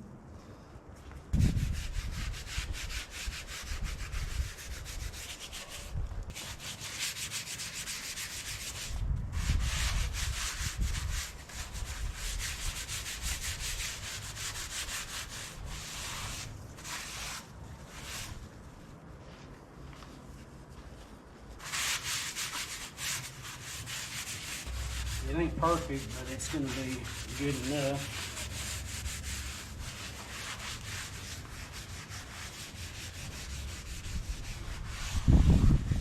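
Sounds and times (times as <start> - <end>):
abrasive scrubbing on metal: 1.4 - 18.4, 21.6 - 36.0.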